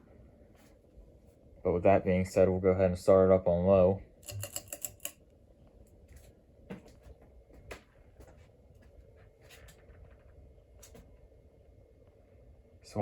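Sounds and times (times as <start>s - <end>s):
ceiling fan hum: 0.0s - 13.0s.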